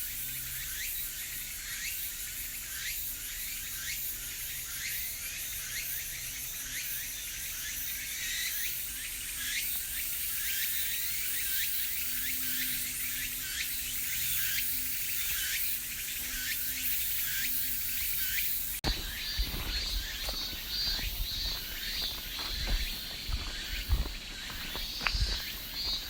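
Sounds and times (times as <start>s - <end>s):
cicadas calling: 0.0s - 26.0s
dense high insect hiss: 0.0s - 26.0s.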